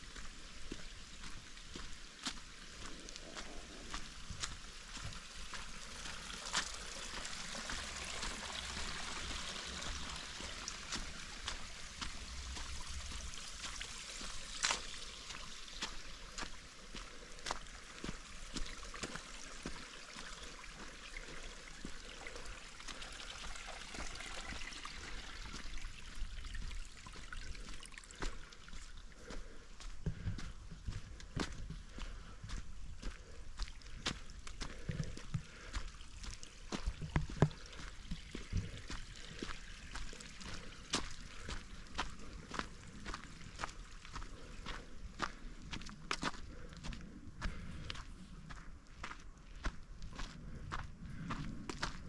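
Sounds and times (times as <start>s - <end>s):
footsteps on trail: 0.0s - 52.0s
stream trickling: 0.0s - 52.0s.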